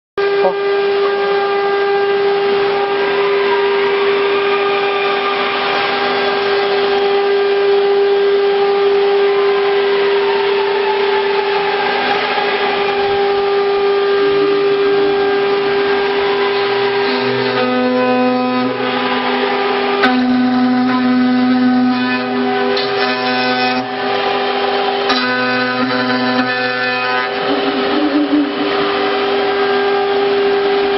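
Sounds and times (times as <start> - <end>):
cnc router spindle whine: 0.2 - 30.9
lower motor tones changing pitch: 0.2 - 30.9.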